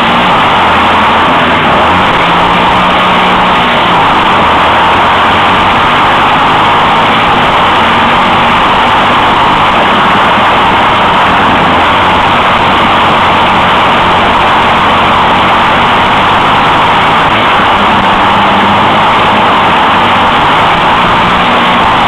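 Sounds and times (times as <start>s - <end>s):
kart engine running flat out: 0.0s - 22.0s.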